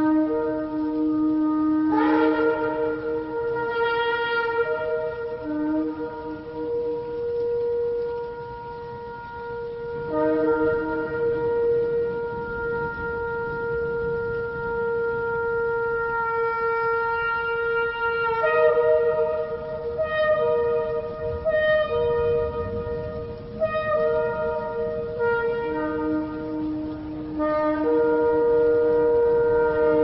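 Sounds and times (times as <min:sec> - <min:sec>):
shofar held notes: 0:00.0 - 0:30.0.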